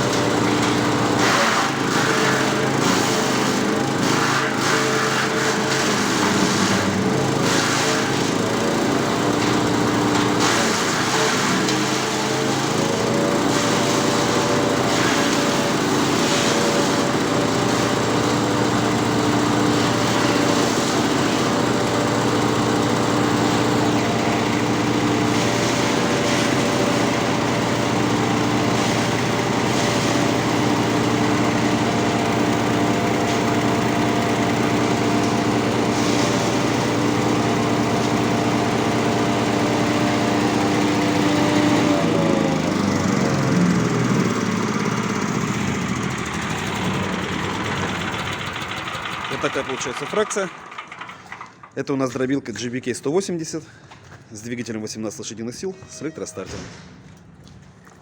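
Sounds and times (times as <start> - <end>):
wood chipper engine: 0.0 - 54.3.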